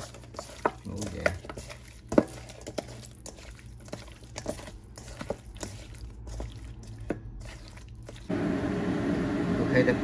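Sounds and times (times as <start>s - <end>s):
wet squishing of fish: 0.0s - 8.3s.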